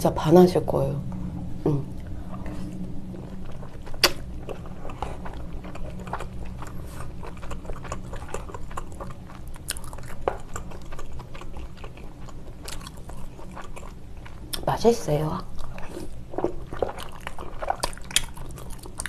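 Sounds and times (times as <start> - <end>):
low steady hum: 0.0 - 19.0
close chewing with wet mouth sounds: 1.9 - 19.0.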